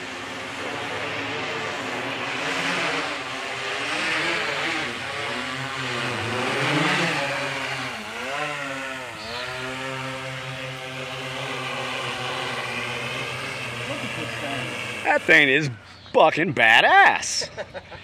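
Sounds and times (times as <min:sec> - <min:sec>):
drone propellers buzzing: 0:00.0 - 0:16.4.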